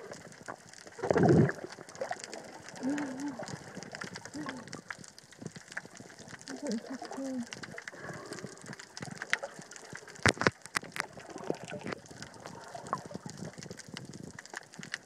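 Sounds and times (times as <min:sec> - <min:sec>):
crackling clicks: 0:00.0 - 0:15.0.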